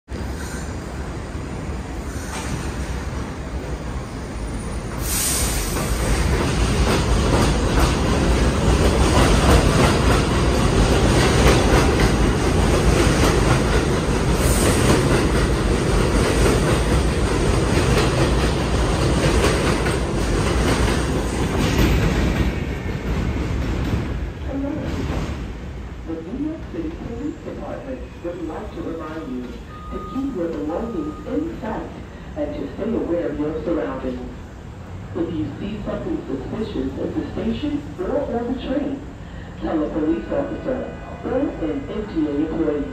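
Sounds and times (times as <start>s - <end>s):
subway train rumbling past: 0.1s - 42.9s.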